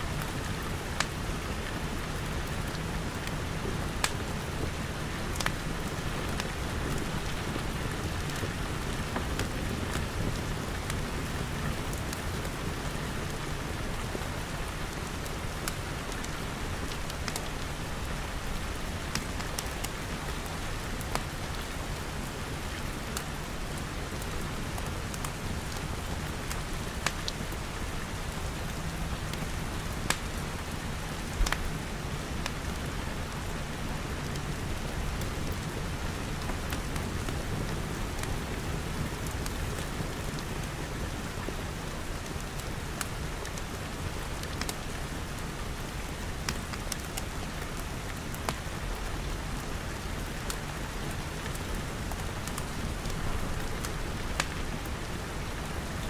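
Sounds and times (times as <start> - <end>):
rain on glass roof: 0.0 - 56.0
wood fire crackling: 0.2 - 27.4, 29.3 - 33.3, 34.2 - 56.0.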